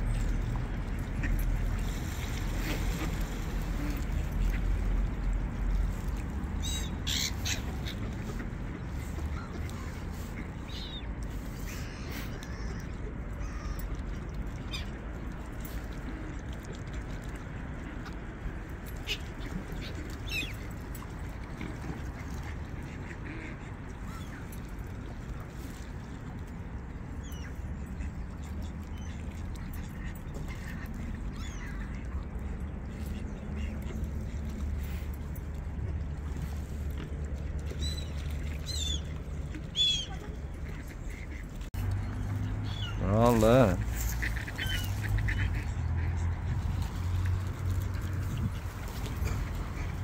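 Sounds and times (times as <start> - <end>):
waterbird calls: 0.0 - 50.0.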